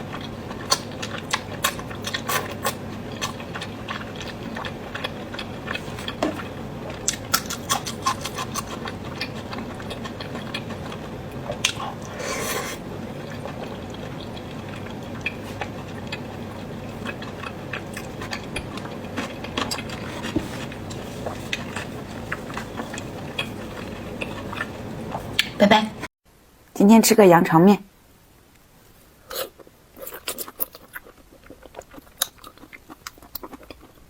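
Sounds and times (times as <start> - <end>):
wet chewing: 0.0 - 25.6, 29.3 - 34.0.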